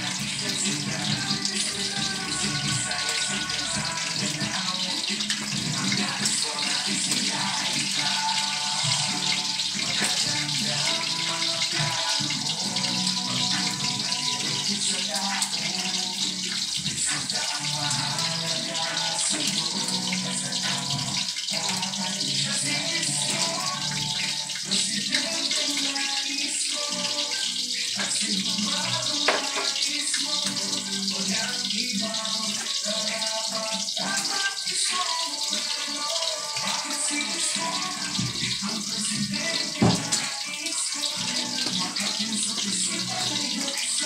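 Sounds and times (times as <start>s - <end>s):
oil and food sizzling in a wok: 0.0s - 44.0s.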